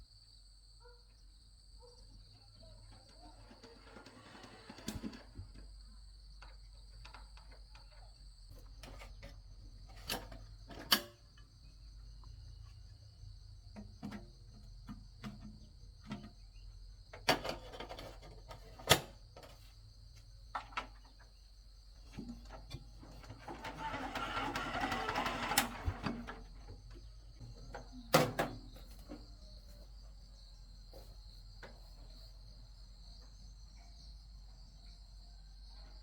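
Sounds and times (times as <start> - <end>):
crickets chirring: 0.0 - 36.0.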